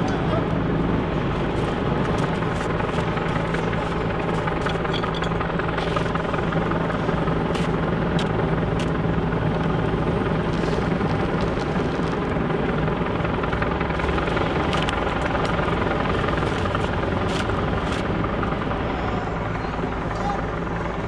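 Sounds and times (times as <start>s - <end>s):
helicopter rotor drone: 0.0s - 21.0s.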